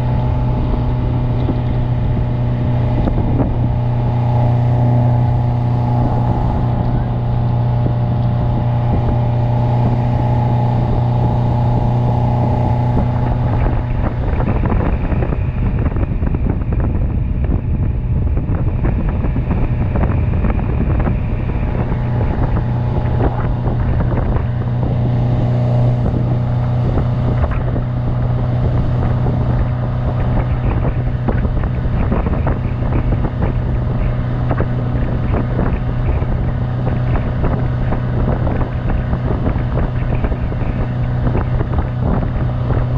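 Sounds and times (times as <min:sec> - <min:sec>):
outboard motor running: 0:00.0 - 0:42.9
water rushing in wake: 0:00.0 - 0:42.9
wind on microphone: 0:00.0 - 0:42.9.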